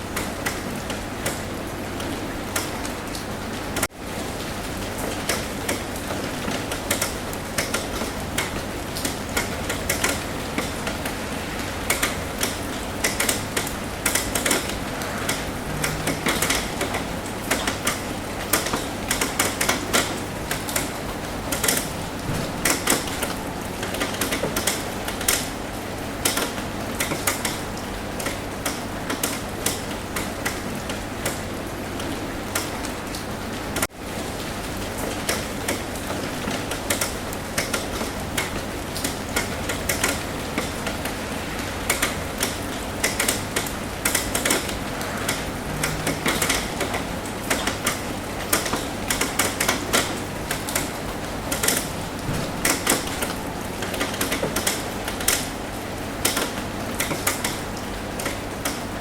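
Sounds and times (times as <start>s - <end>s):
rain tapping on a roof: 0.0s - 59.0s.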